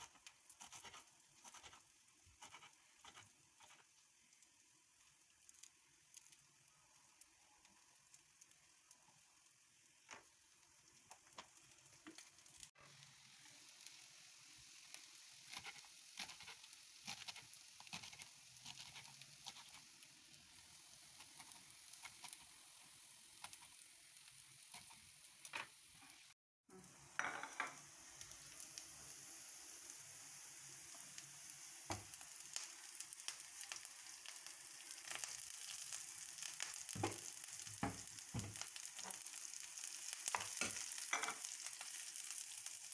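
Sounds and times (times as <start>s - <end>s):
greens sizzling in a pan: 0.0s - 42.9s.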